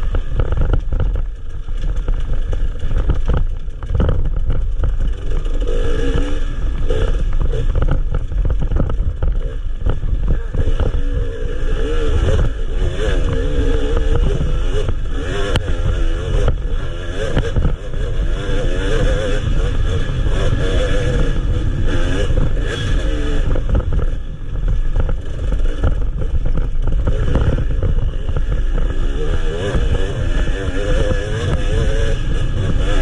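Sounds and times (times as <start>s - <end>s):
heavy low rumble: 0.0s - 33.0s
motorcycle engine revving: 0.0s - 33.0s.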